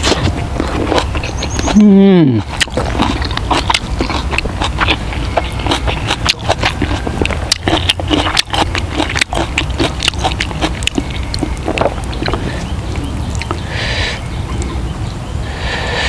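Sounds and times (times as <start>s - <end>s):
chewing and handling food: 0.0s - 14.9s
steady low rumble: 0.0s - 16.0s.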